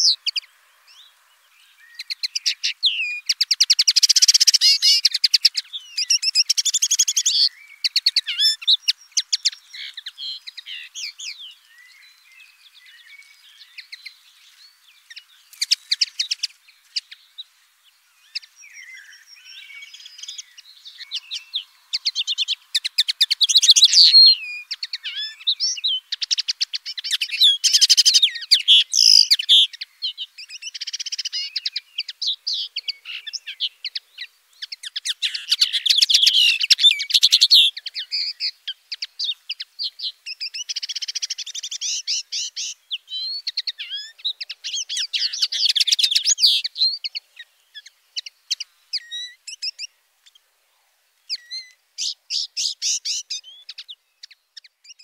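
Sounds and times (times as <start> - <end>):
linnet twittering song: 0.0 - 50.5, 51.2 - 55.0.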